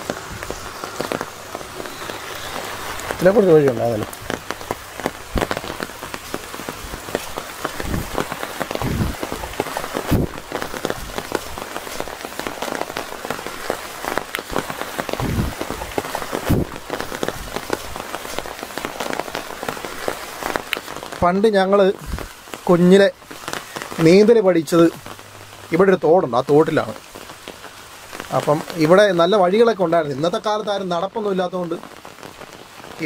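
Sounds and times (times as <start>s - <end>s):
heavy rain on umbrella: 0.0s - 33.0s.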